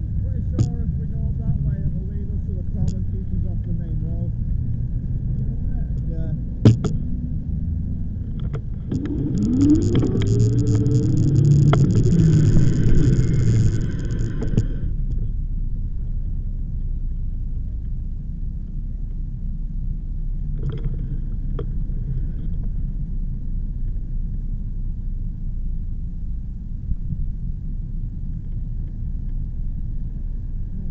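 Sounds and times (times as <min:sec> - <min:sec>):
loud noise with whine: 0:00.0 - 0:30.9
wind rumble on microphone: 0:00.0 - 0:30.9.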